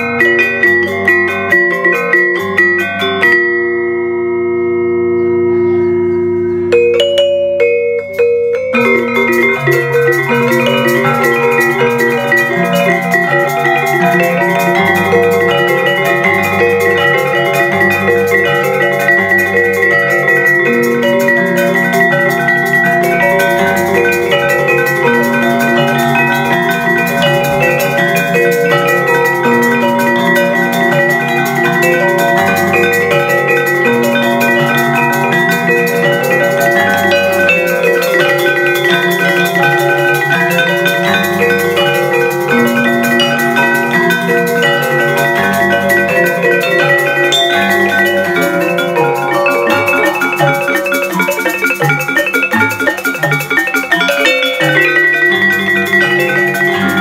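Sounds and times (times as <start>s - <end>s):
metallophone ensemble playing: 0.0s - 57.0s.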